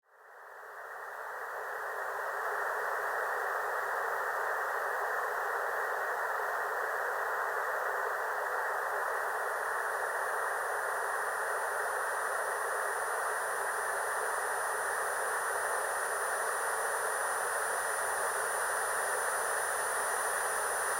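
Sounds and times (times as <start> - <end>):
filtered white noise hiss: 0.1 - 20.9.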